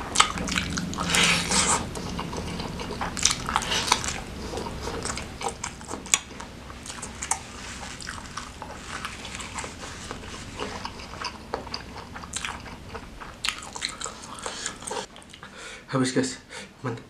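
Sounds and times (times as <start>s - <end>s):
wet chewing: 0.0s - 15.5s.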